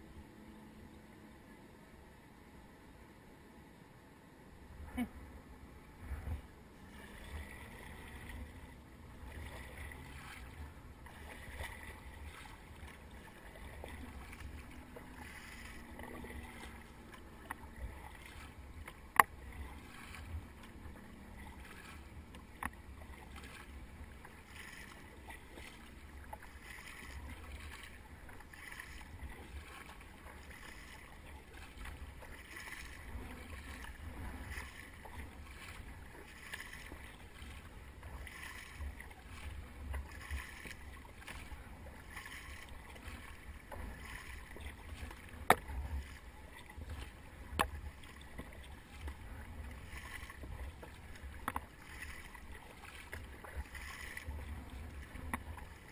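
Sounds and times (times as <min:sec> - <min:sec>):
paddle splashing in water: 0:06.1 - 0:55.9.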